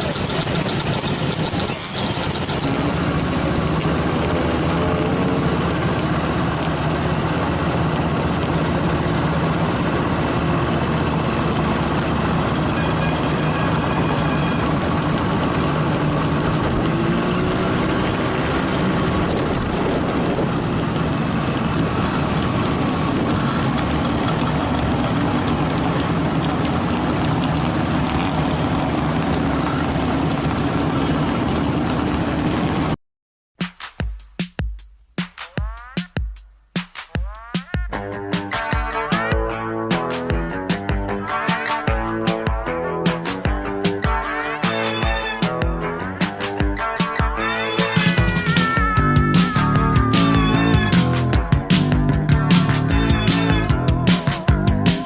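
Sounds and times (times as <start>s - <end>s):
vehicle engine droning: 0.0s - 33.0s, 38.0s - 55.0s.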